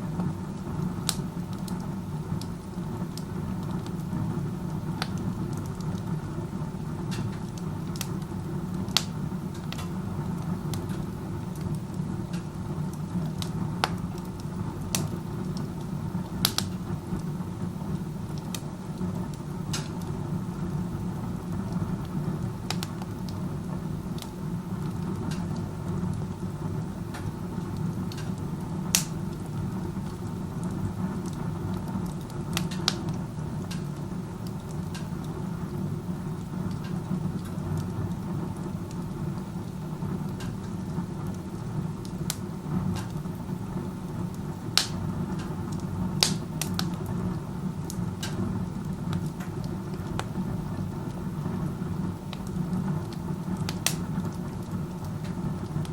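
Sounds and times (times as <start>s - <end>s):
burning wood popping and crackling: 0.0s - 55.9s.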